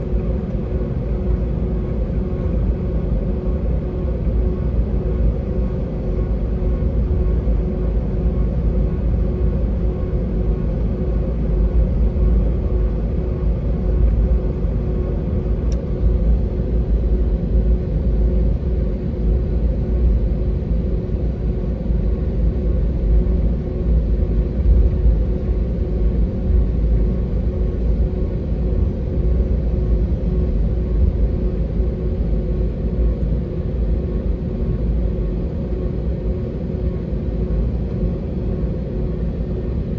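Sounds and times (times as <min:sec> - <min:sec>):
airliner engine rumble in cabin: 0:00.0 - 0:39.9.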